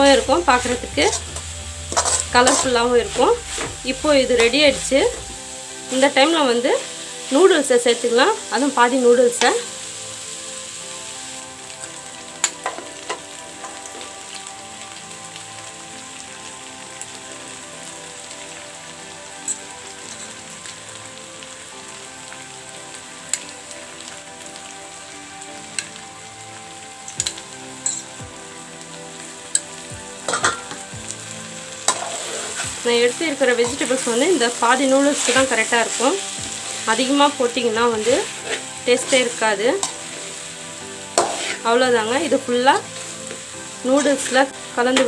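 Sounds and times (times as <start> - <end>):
vegetables sizzling in a wok: 0.0 - 45.0.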